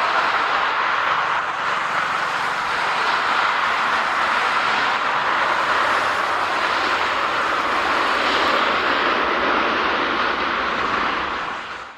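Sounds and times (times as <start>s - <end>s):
jet engines rushing: 0.0s - 11.9s.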